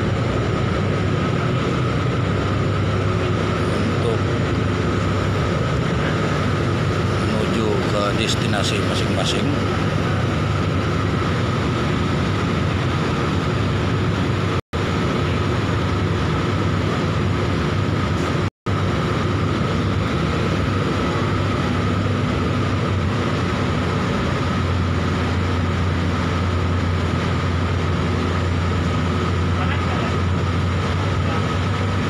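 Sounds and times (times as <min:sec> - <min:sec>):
ship engines droning: 0:00.0 - 0:32.0.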